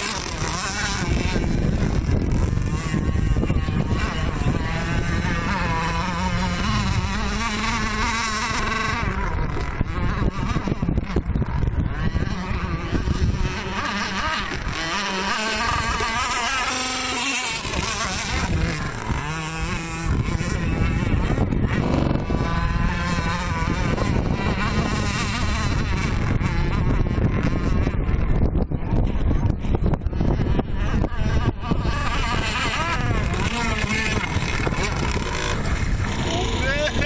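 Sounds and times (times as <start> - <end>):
model boat engine buzzing: 0.0 - 37.0.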